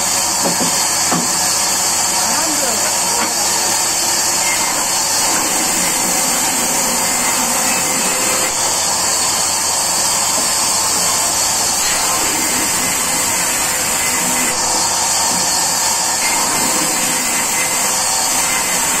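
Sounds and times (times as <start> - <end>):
band saw cutting log: 0.0 - 19.0.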